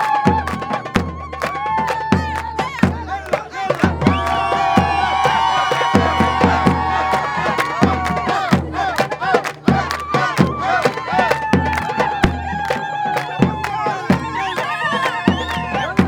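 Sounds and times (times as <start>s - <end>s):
crowd voices and singing: 0.0s - 16.0s
pounding drum beat: 0.0s - 16.0s.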